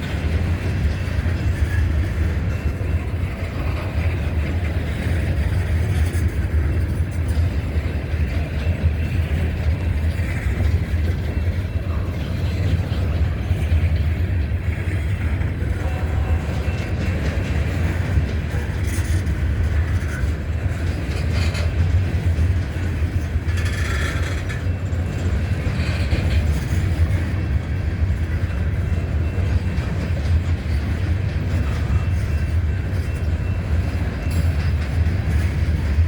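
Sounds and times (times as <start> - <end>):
freight train wheels rumbling: 0.0 - 36.0
train wheel squeal: 0.0 - 36.0.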